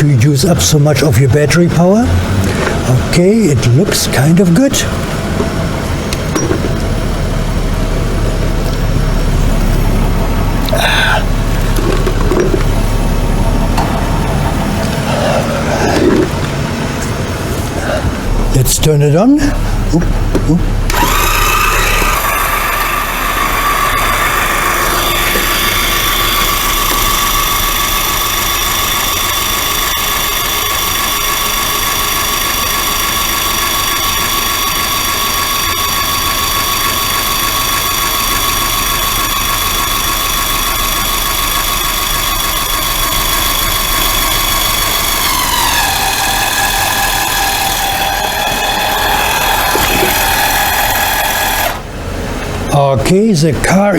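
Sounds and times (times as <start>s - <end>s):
electric car jack whining: 0.0s - 18.8s, 19.5s - 52.7s.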